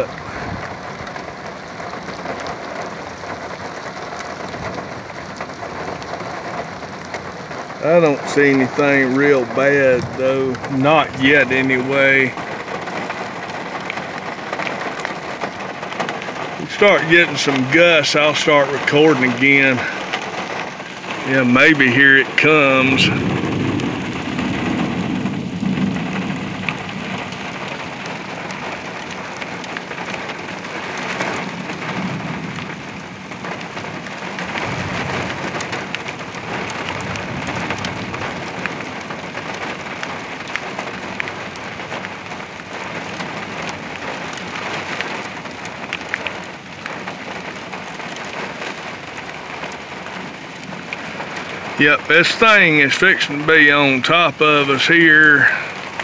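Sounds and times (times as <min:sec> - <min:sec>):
low thunder rumble: 0:00.0 - 0:46.6
heavy rain pouring: 0:00.0 - 0:56.0.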